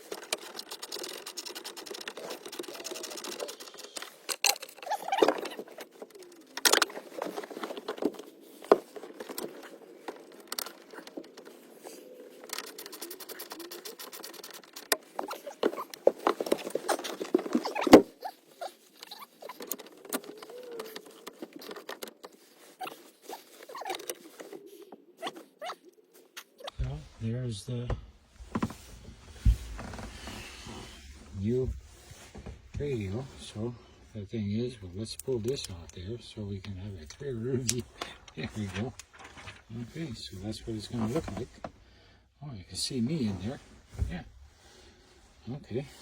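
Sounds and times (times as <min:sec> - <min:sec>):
plastic parts squeaking and clicking: 0:00.0 - 0:27.0, 0:28.4 - 0:41.8.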